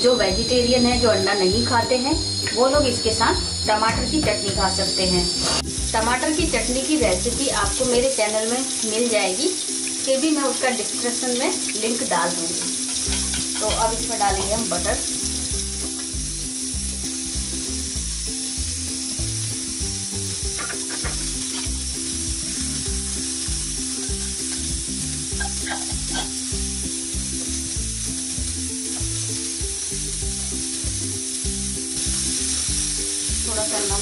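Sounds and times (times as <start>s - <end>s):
egg sizzling on a hot pan: 0.0s - 34.0s.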